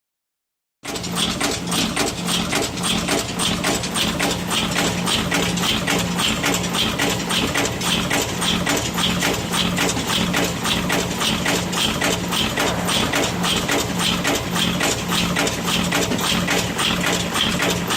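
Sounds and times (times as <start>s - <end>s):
press rhythmic mechanical clatter: 0.8s - 17.9s.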